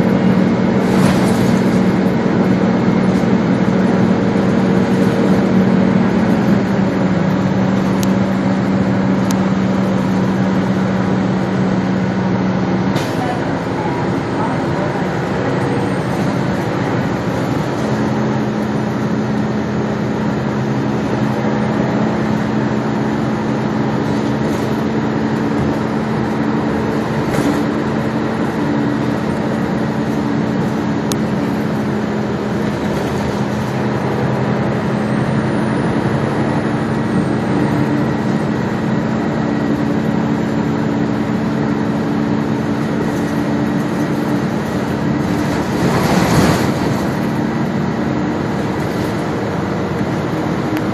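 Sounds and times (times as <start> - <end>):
bus engine humming: 0.0 - 50.9.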